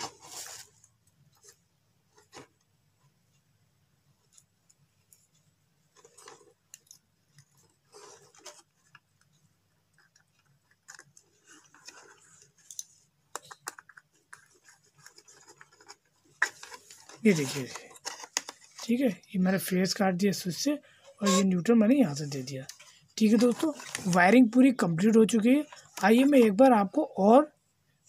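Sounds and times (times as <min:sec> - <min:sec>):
wires being handled: 0:04.2 - 0:27.0.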